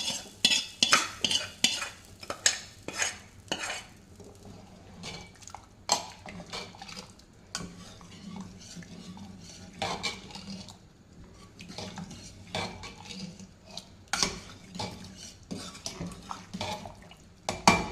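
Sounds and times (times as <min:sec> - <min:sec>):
metal spoon scraping in pot: 0:00.0 - 0:16.9.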